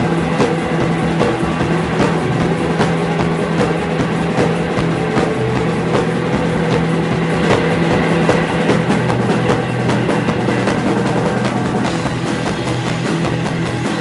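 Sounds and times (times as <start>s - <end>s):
drum kit beat: 0.0s - 14.0s
rock band playing live: 0.0s - 14.0s.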